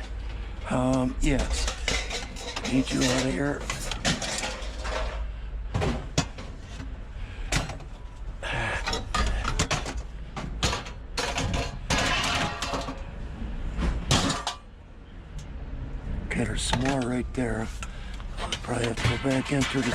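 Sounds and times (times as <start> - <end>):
scrap metal clanking and scraping: 0.0 - 13.1, 13.7 - 14.8, 16.4 - 19.9.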